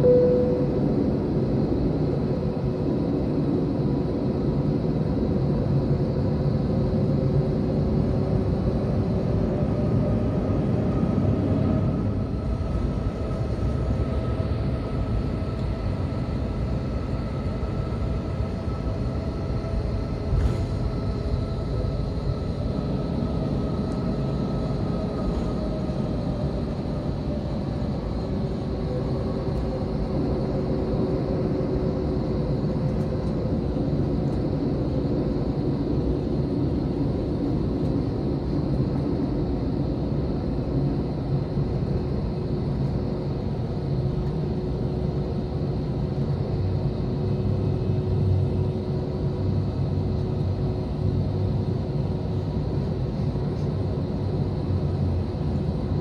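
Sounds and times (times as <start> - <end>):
aircraft engines rumbling: 0.0 - 56.0
faint whining tones: 0.0 - 56.0.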